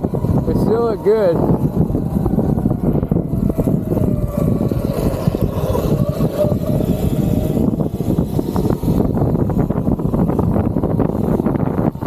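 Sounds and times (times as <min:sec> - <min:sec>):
faint wavering motor whine: 0:00.0 - 0:12.0
wind buffeting microphone: 0:00.0 - 0:12.0.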